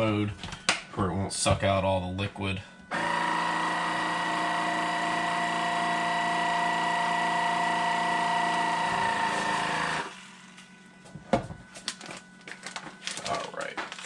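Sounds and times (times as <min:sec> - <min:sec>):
vacuum sealer pump running: 0:02.6 - 0:14.0.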